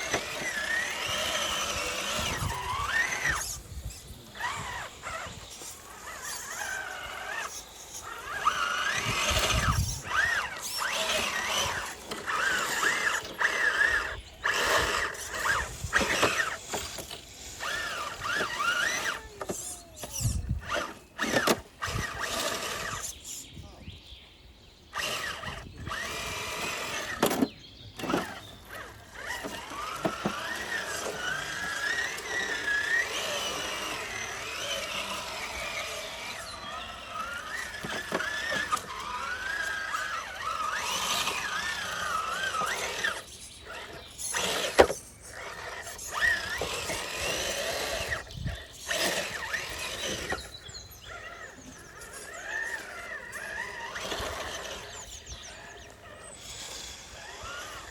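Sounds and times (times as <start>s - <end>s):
electric motor whine: 0.0s - 23.4s, 24.9s - 57.9s.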